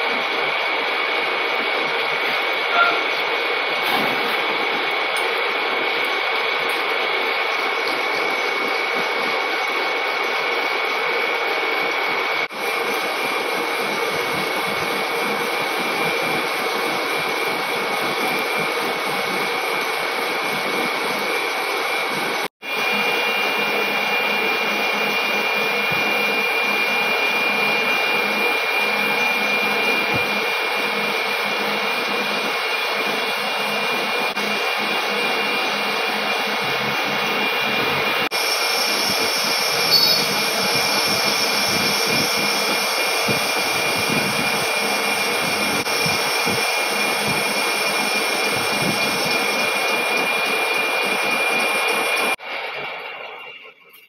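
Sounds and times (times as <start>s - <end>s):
lathe cutting metal with whine: 0.0s - 54.0s.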